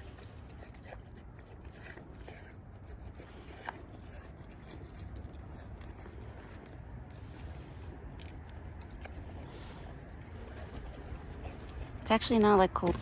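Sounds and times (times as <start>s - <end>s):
deer chewing apples: 0.0s - 13.0s.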